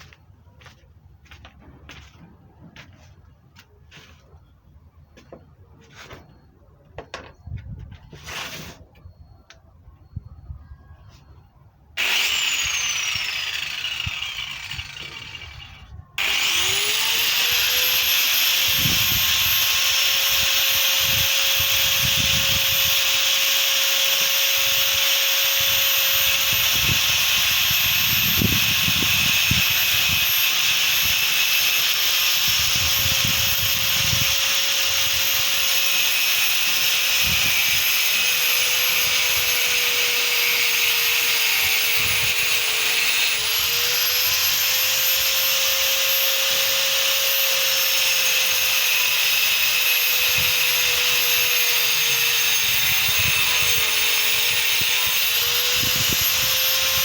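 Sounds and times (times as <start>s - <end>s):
angle grinder whine: 8.0s - 8.8s, 12.0s - 57.0s
grinder disc cutting wood: 8.2s - 8.8s, 12.0s - 57.0s.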